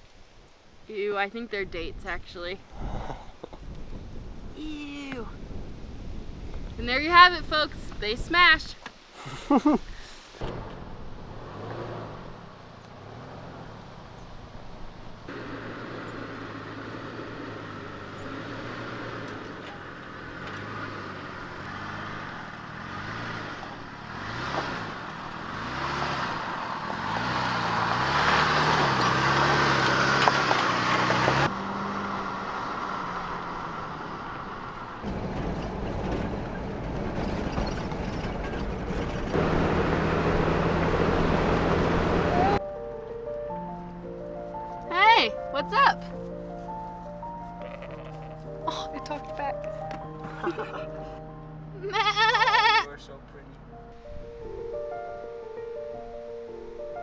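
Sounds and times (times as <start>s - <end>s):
road noise: 0.0s - 57.0s
vehicle engine hum: 10.3s - 57.0s.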